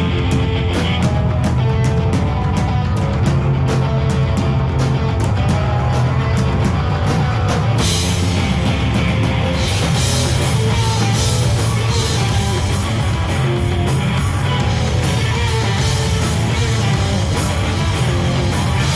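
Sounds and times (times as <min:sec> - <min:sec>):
drum kit: 0:00.0 - 0:18.9
electric guitars: 0:00.0 - 0:18.9.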